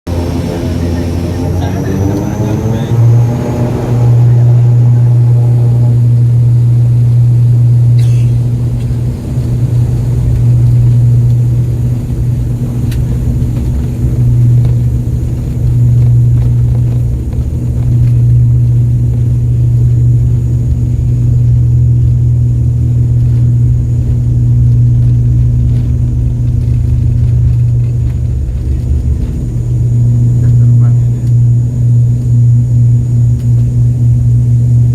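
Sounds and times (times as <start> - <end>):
airliner engines droning in cabin: 0.1 - 34.9
faint steady hum: 0.1 - 34.9.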